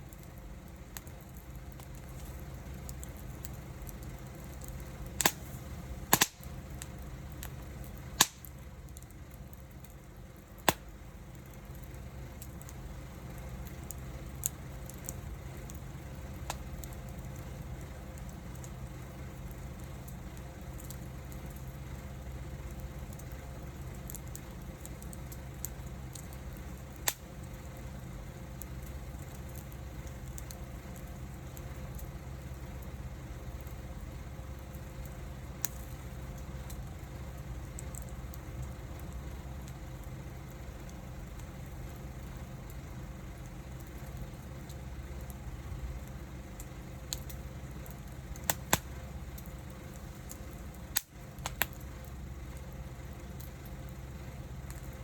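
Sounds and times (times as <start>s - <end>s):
burning wood popping: 0.0s - 55.0s
wood fire crackling: 0.0s - 55.0s.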